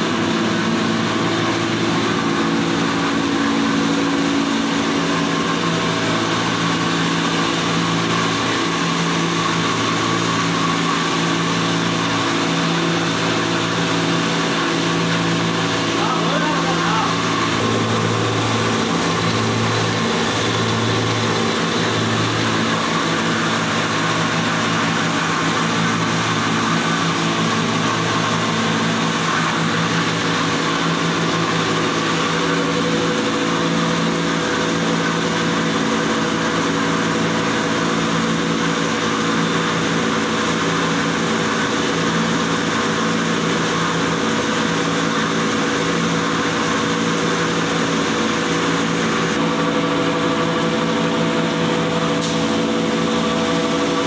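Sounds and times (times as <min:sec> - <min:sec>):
flour mill motor humming: 0:00.0 - 0:54.0
grinding and airflow rush: 0:00.0 - 0:54.0.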